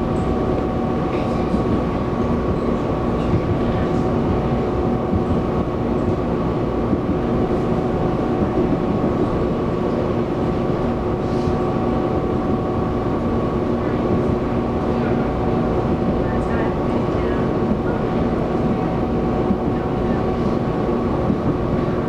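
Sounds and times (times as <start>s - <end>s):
electric train hum: 0.0s - 22.0s
train wheels rumbling on rail: 0.0s - 22.0s.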